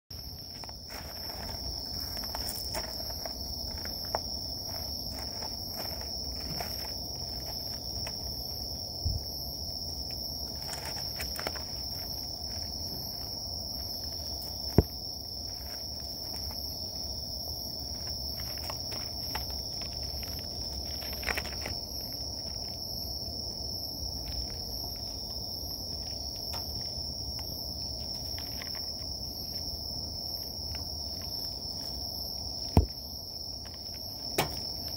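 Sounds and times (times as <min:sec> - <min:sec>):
crickets chirring: 0:00.1 - 0:34.9
high pulsing insect call: 0:00.1 - 0:34.9.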